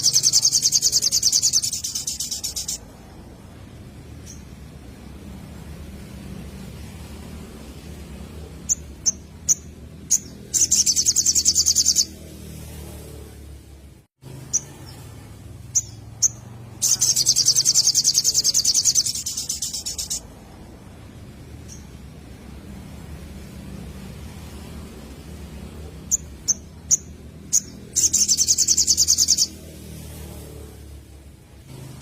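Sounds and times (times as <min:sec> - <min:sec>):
bird chirps and trill: 0:00.0 - 0:13.4, 0:14.2 - 0:22.2, 0:24.4 - 0:30.8.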